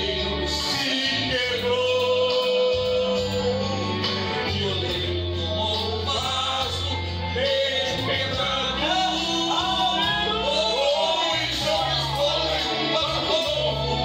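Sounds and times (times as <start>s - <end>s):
backing track with guitar: 0.0s - 14.0s
man singing into a microphone: 0.0s - 14.0s.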